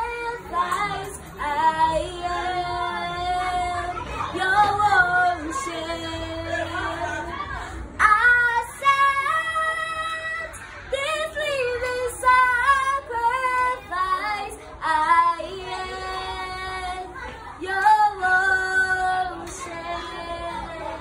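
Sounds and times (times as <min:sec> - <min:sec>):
girl singing: 0:00.0 - 0:21.0.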